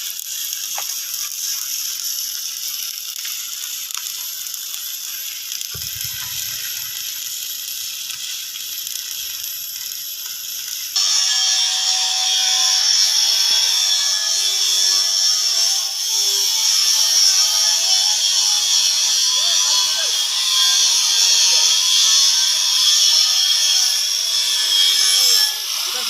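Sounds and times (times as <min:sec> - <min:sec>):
arc welding hiss: 0:00.0 - 0:26.0.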